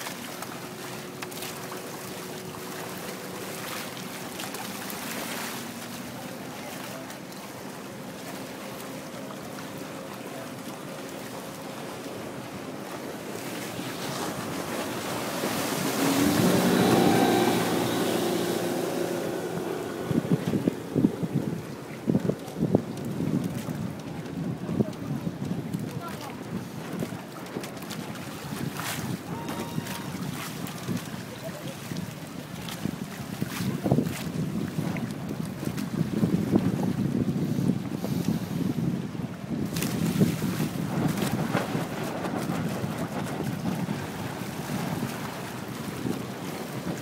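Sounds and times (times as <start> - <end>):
water rushing past hull: 0.0 - 47.0
wind buffeting microphone: 7.2 - 47.0.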